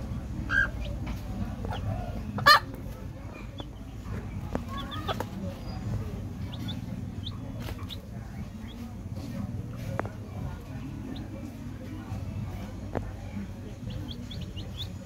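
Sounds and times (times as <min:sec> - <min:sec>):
chicks peeping: 0:00.1 - 0:15.0
hen clucking: 0:00.2 - 0:09.8, 0:10.6 - 0:11.6, 0:13.3 - 0:15.0.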